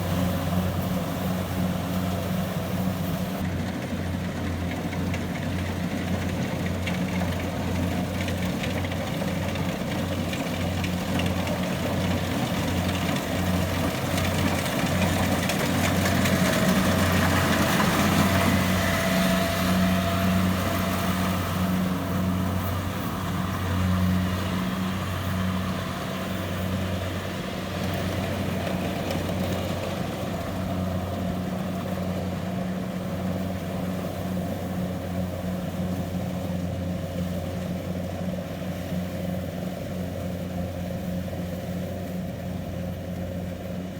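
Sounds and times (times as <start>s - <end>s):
heavy harvester engine throbbing: 0.0s - 43.9s.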